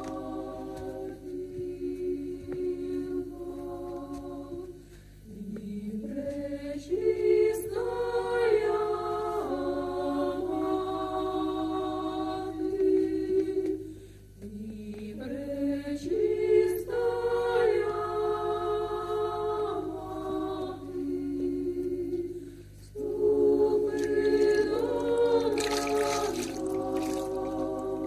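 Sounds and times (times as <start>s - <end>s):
women's choir singing: 0.0s - 28.0s.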